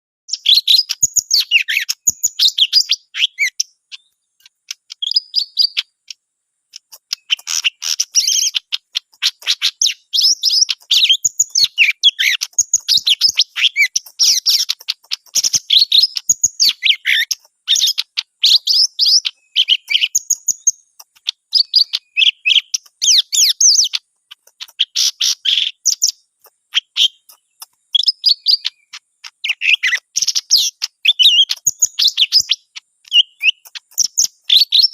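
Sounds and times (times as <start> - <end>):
bird whistles and chirps: 0.3 - 34.9.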